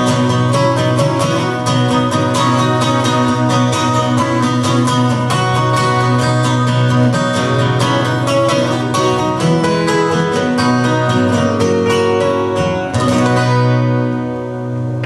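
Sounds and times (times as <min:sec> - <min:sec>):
steady bass: 0:00.0 - 0:15.0
strummed acoustic guitars: 0:00.0 - 0:15.0.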